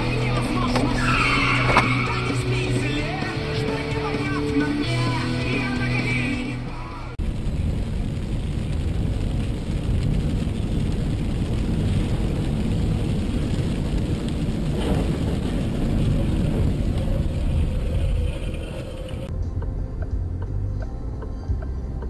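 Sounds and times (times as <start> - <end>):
car road noise in heavy rain: 0.0 - 19.3.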